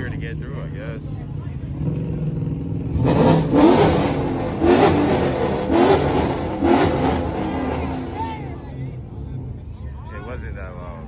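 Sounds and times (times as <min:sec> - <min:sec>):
car engine accelerating hard: 0:00.0 - 0:09.8.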